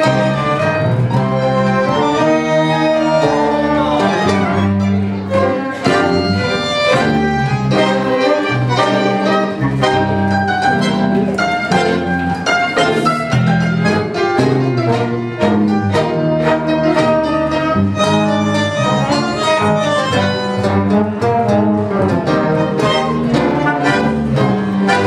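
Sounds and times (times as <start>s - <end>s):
tango orchestra playing: 0.0s - 25.0s.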